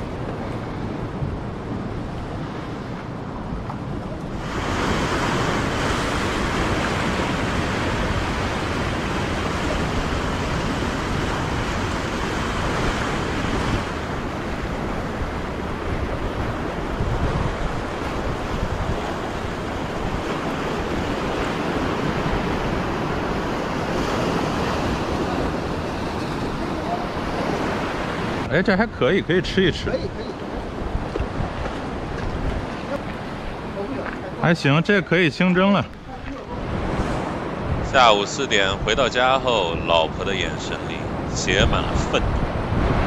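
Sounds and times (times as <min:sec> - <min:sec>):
wind buffeting microphone: 0:00.0 - 0:34.4, 0:35.8 - 0:43.0
ocean surf breaking on rocks: 0:00.0 - 0:43.0.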